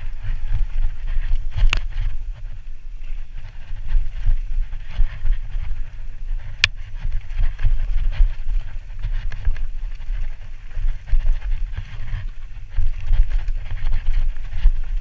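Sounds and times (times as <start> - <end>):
bike rattling over bumpy trail: 0.0 - 15.0
wind rumble on microphone: 0.0 - 15.0.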